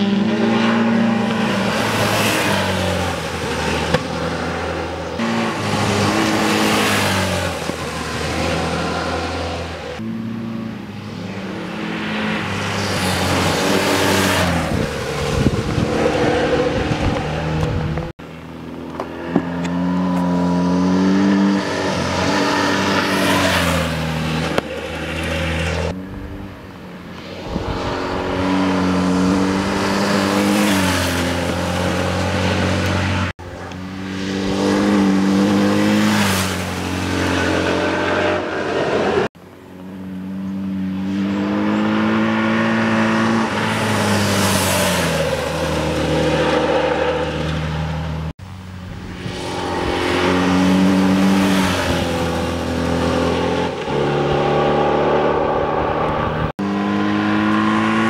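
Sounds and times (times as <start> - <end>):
motorcycle engine revving: 0.0 - 18.2, 18.9 - 58.0.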